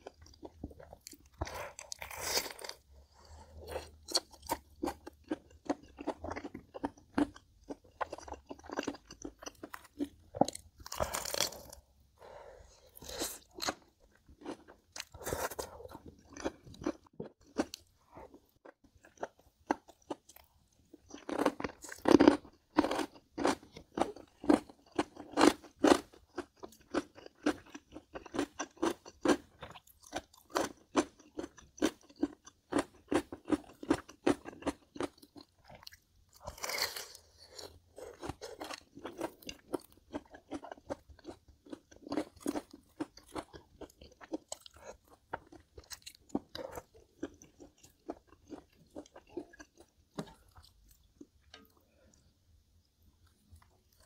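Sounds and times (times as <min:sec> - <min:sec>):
crunchy food chewing: 0:00.0 - 0:11.8, 0:12.8 - 0:52.3.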